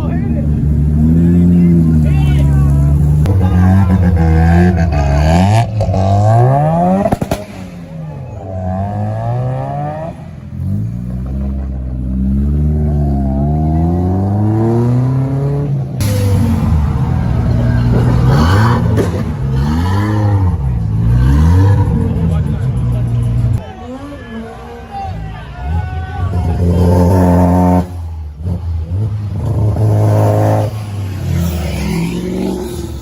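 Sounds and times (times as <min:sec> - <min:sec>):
car engines revving and accelerating: 0:00.0 - 0:33.0.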